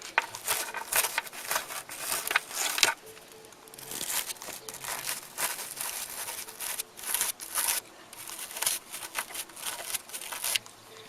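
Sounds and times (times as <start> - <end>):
scratchy rubbing and crinkling: 0.0 - 10.7.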